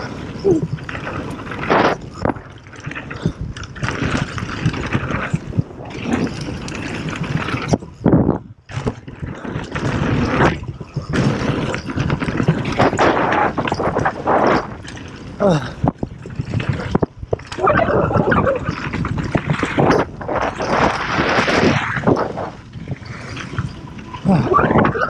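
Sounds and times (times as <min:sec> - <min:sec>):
bike rattling over bumps: 0:00.0 - 0:25.0
bike tyres skidding on dirt: 0:00.0 - 0:25.0
wind buffeting microphone: 0:00.0 - 0:25.0.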